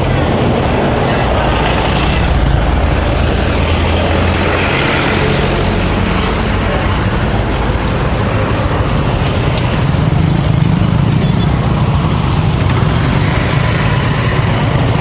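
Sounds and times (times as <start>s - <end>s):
vehicles passing on street: 0.0s - 15.0s.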